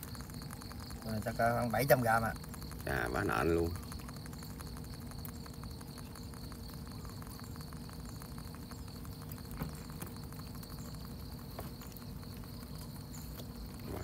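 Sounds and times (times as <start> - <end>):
crickets chirping: 0.0 - 14.0
low steady hum: 0.0 - 14.0.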